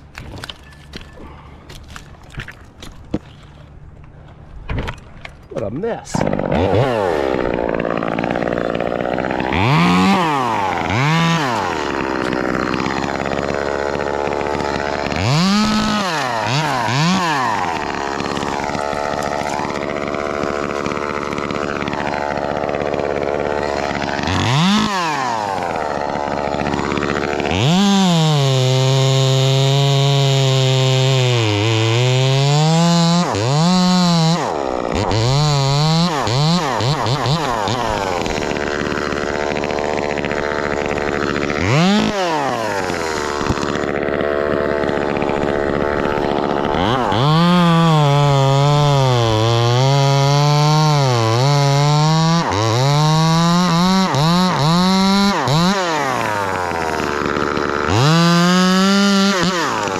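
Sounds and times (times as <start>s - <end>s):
chainsaw idling and revving: 6.0s - 59.9s.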